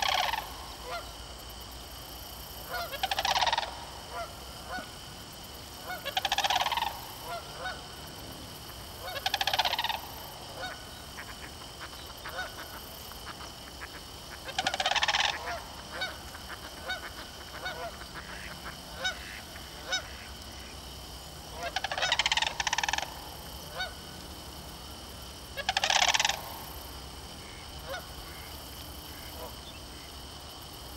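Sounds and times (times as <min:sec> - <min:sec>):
cranes trumpeting calls: 0:00.0 - 0:01.2, 0:02.6 - 0:24.2, 0:25.5 - 0:30.1.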